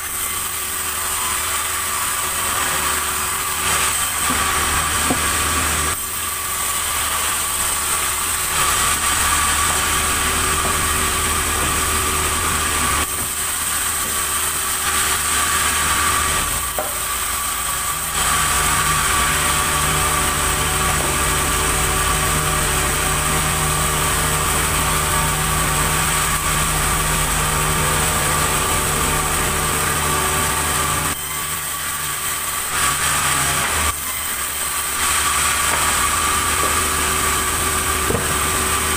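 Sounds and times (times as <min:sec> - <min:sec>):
sawmill saw whining: 0:00.0 - 0:38.9.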